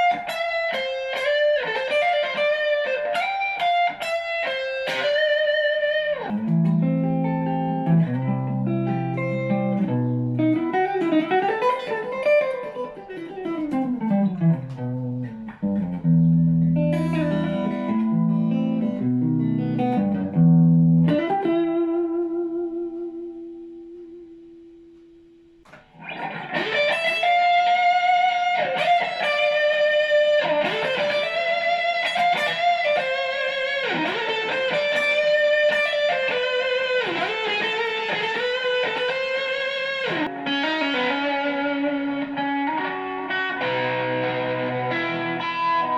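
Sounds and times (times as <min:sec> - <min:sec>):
electric guitar playing: 0:00.0 - 0:45.9.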